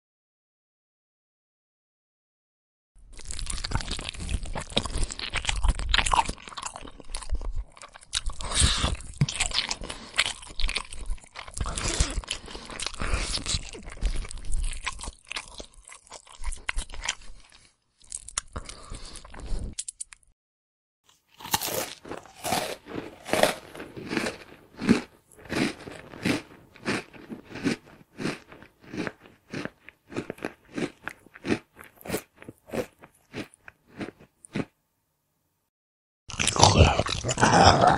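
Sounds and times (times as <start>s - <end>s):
rhythmic chewing crunches: 3.1s - 19.8s, 21.3s - 34.7s, 36.3s - 37.9s
crunchy food chewing: 3.1s - 20.2s, 21.3s - 34.8s, 36.3s - 37.9s.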